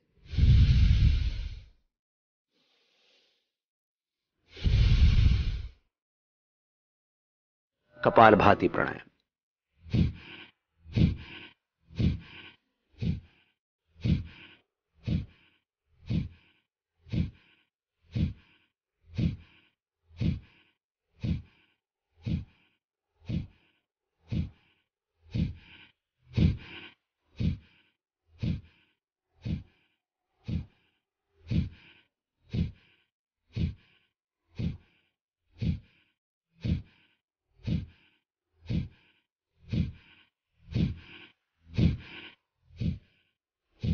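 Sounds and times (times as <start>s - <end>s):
forceful nasal exhalations: 0.2s - 1.8s, 4.5s - 5.8s, 9.8s - 35.0s, 35.6s - 43.9s.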